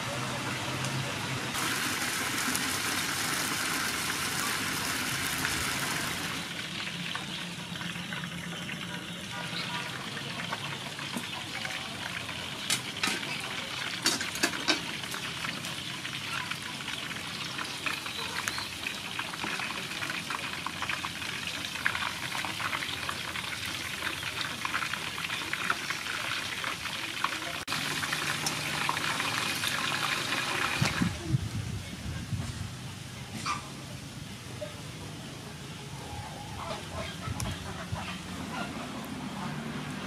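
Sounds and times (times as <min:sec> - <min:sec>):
pork deep-frying in oil: 0:00.0 - 0:32.1.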